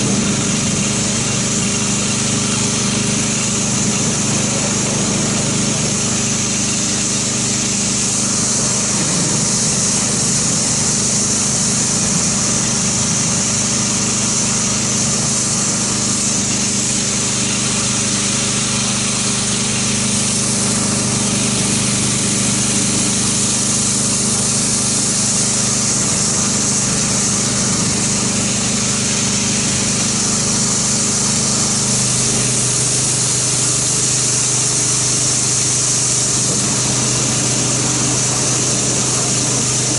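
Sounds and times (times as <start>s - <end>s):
pressure washer motor humming: 0.0s - 39.9s
water jet hissing: 0.0s - 39.9s.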